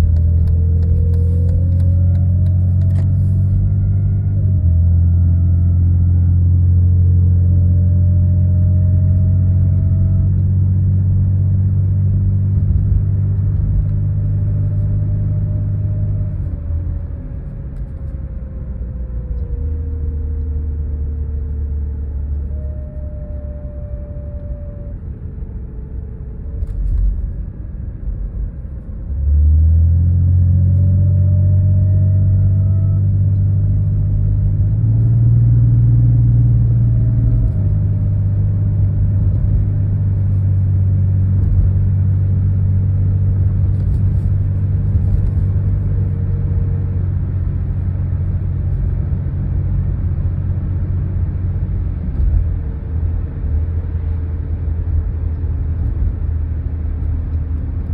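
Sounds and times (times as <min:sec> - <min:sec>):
car rumble: 0:00.0 - 0:57.9
low car drone: 0:00.0 - 0:57.9.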